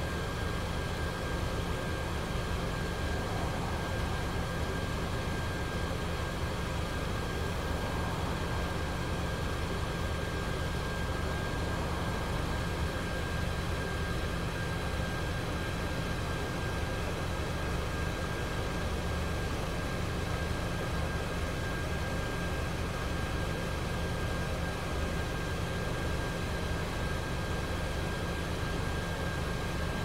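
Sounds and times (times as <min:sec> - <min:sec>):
bus diesel engine idling: 0:00.0 - 0:24.6
thin steady whine: 0:00.0 - 0:30.0.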